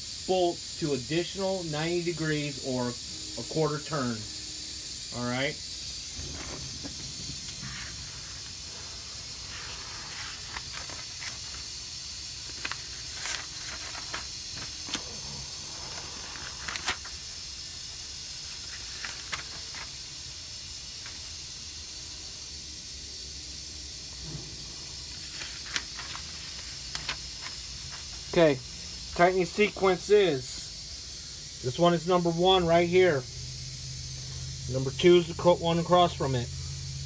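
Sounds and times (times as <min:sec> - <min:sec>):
background hiss: 0:00.0 - 0:37.0.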